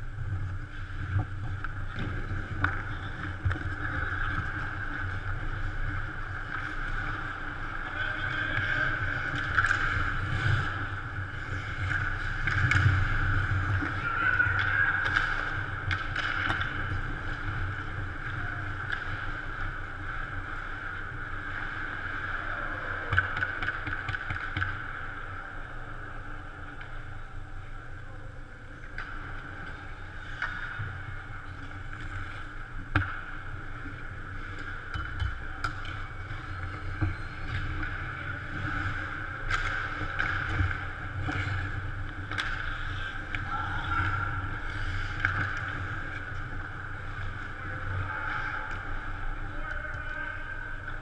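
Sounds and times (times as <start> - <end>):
clacks of sticks and puck: 0.4 - 19.8, 22.9 - 25.2, 28.8 - 51.0.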